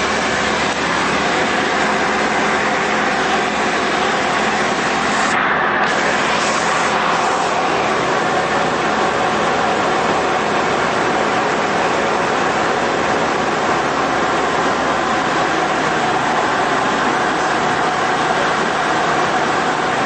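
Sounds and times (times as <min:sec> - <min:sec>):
aircraft engine droning: 0:00.0 - 0:20.0
rushing airflow: 0:00.0 - 0:20.0.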